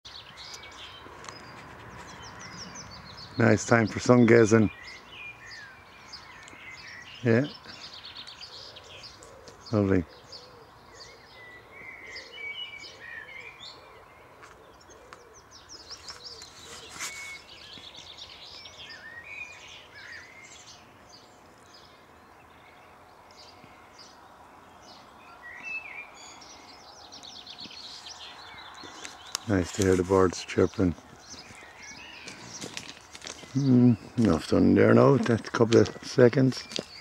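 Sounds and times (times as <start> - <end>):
faint outdoor noise: 0.1 - 37.0
songbirds chirping and singing: 0.1 - 37.0.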